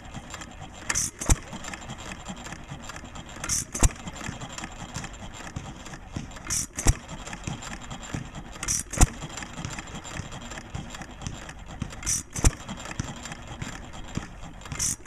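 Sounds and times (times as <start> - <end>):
valve gear clicking: 0.0 - 15.0.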